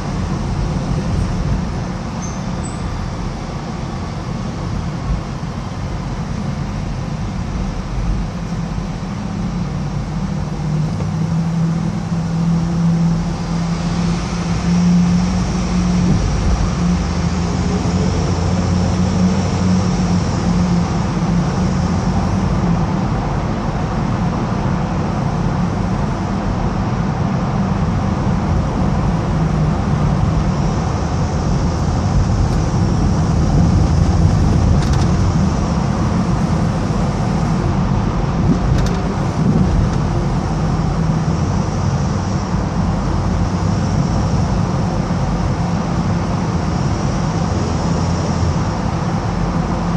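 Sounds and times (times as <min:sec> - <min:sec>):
car driving road noise: 0:00.0 - 0:49.9.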